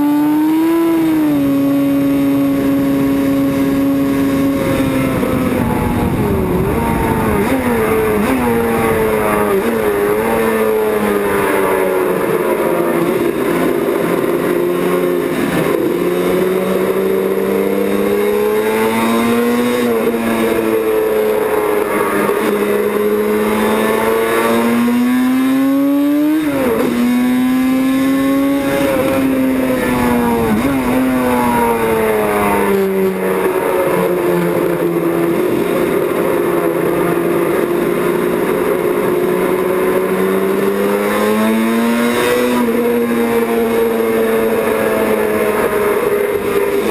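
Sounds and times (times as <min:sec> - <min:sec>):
racing engine accelerating: 0:00.0 - 0:46.9.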